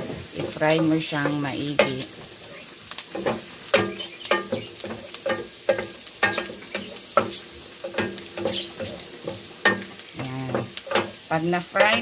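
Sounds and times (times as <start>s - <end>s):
garlic and onion sizzling: 0.0s - 12.0s
spatula scraping frying pan: 0.0s - 12.0s.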